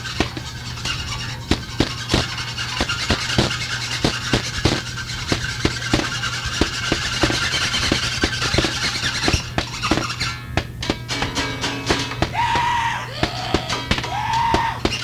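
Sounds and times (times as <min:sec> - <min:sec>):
distorted squealing noise: 0:00.0 - 0:15.0
sharp knocks: 0:00.0 - 0:15.0
steady hum: 0:00.0 - 0:15.0.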